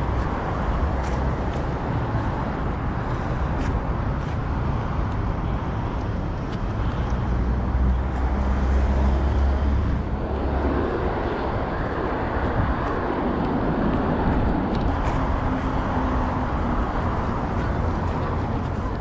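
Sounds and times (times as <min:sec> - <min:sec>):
road traffic noise: 0:00.0 - 0:19.0
vehicle engine rumble: 0:00.0 - 0:19.0.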